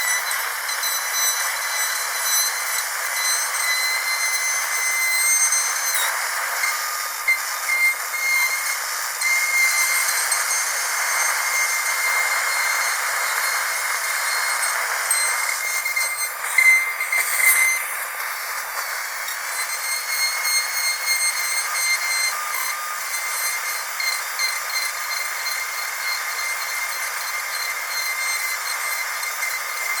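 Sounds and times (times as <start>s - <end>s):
dentist's drill whining: 0.0s - 30.0s
hiss: 0.0s - 30.0s.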